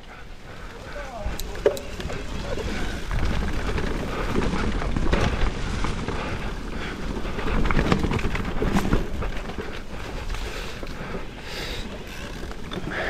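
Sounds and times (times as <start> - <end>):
bike rattling over bumps: 0.0 - 13.0
tyre noise on dirt: 0.7 - 13.0.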